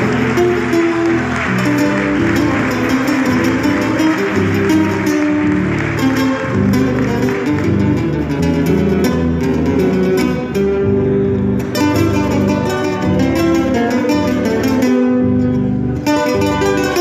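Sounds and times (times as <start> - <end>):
acoustic guitars playing together: 0.0 - 17.0.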